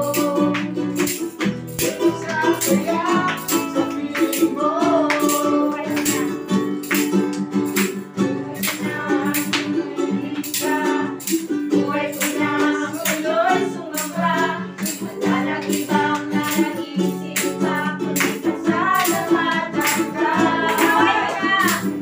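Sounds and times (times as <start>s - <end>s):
group singing worship song: 0.0s - 1.2s, 1.8s - 6.7s, 8.3s - 22.0s
acoustic guitar: 0.0s - 22.0s
hand-clapping on the beat: 0.0s - 22.0s
strummed ukulele: 0.0s - 22.0s.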